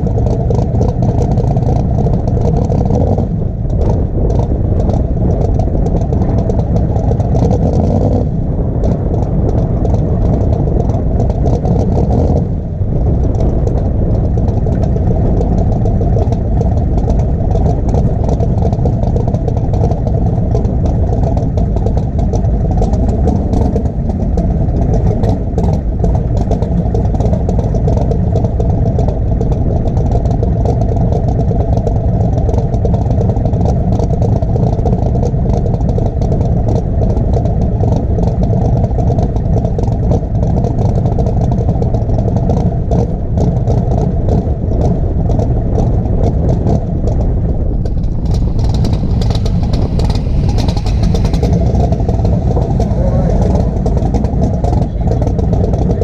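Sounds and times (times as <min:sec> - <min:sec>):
drag car engine rumbling: 0:00.0 - 0:56.0.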